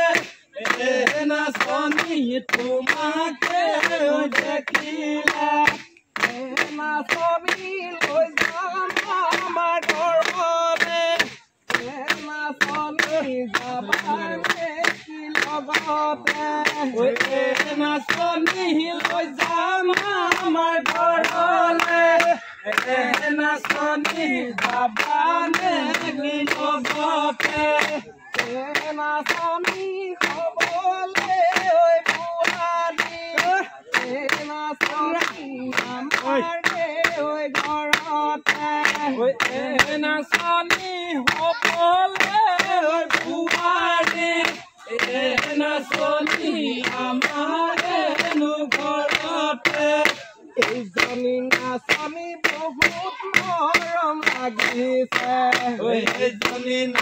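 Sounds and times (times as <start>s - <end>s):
bamboo sticks striking pole: 0.0s - 57.0s
people singing together: 0.0s - 57.0s.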